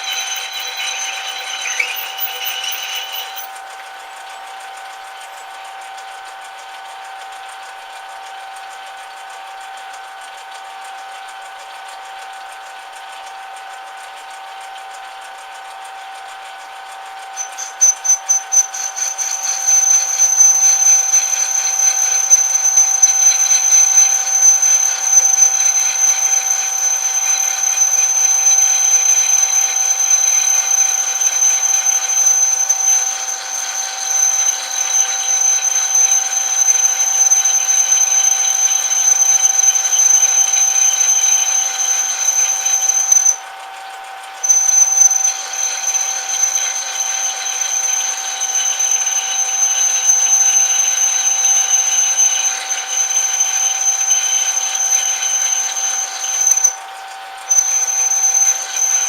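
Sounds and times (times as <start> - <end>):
metal lathe whining: 0.0 - 7.1, 15.2 - 59.0.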